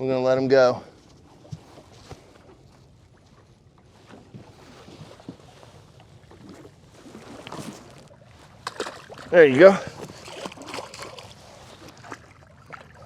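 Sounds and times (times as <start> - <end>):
faint water sounds: 0.0 - 13.0.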